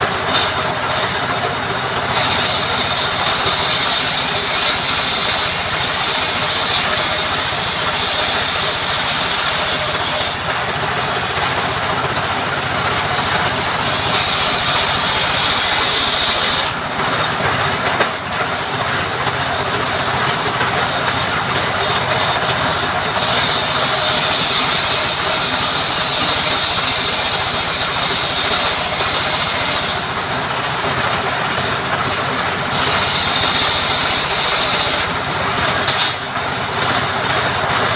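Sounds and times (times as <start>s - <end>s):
power saw cutting wood: 0.0s - 37.9s.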